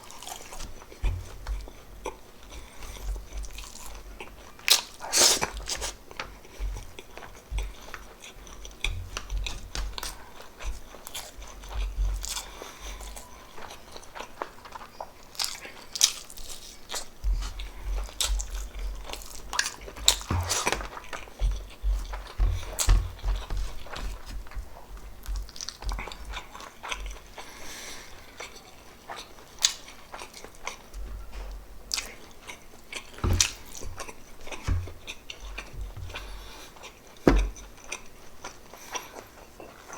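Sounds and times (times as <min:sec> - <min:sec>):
chewing and biting: 0:00.0 - 0:39.9.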